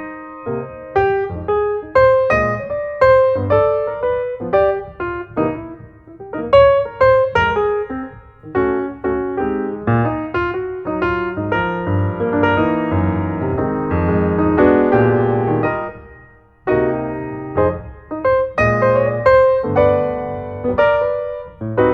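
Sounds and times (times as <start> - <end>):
piano music: 0.0 - 21.9.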